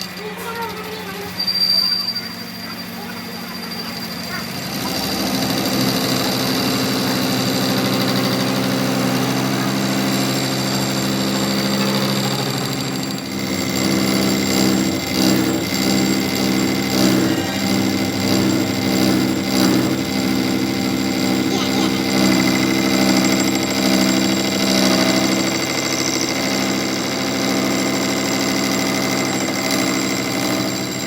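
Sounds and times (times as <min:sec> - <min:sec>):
motor-driven machine running: 0:00.0 - 0:31.0
machine knocking: 0:02.3 - 0:31.0.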